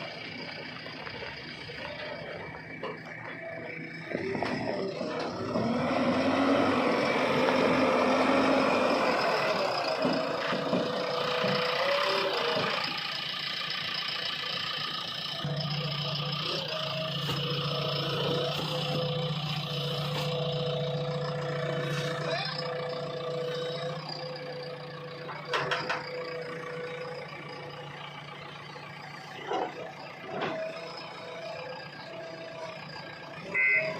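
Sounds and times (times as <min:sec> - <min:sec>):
diesel engines running: 0:00.0 - 0:33.9.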